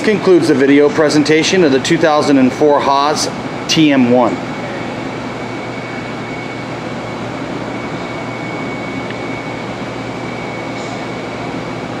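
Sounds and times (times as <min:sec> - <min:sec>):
high-pitched whine: 0:00.0 - 0:12.0
machinery hum: 0:00.0 - 0:12.0.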